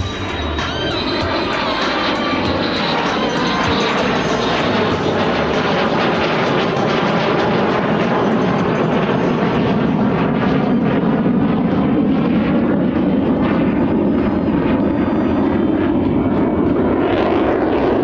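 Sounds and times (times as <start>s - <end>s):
fighter jet flying past: 0.0s - 18.0s.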